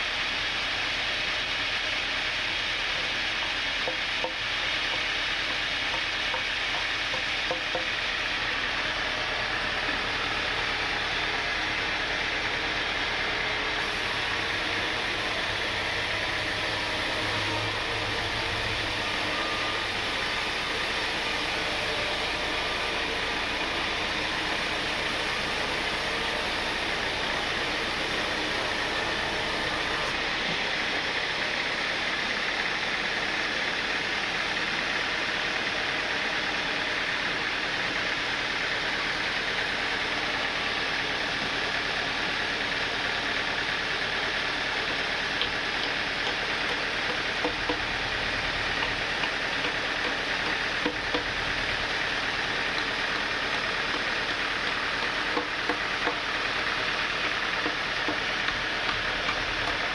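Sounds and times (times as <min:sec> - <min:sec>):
low machine hum: 0:00.0 - 0:59.9
sawmill machinery hissing drone: 0:00.0 - 0:59.9.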